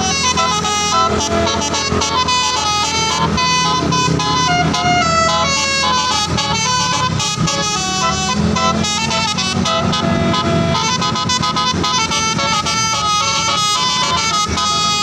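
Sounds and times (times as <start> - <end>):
bus engine running: 0.0 - 15.0
multi-tone bus horn melody: 0.0 - 15.0.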